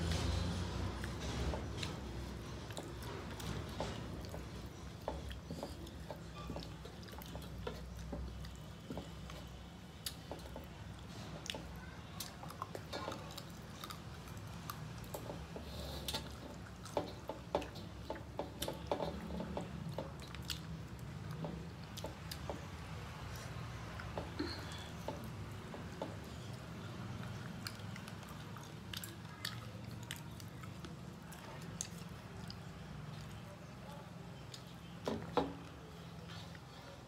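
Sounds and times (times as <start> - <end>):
people chewing food: 0.0 - 37.0.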